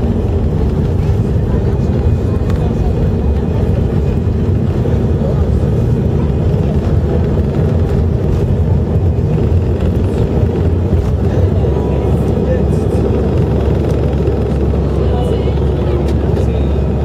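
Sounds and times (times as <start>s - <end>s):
jet engines at takeoff thrust: 0.0s - 17.0s
wheels running on runway: 0.0s - 17.0s.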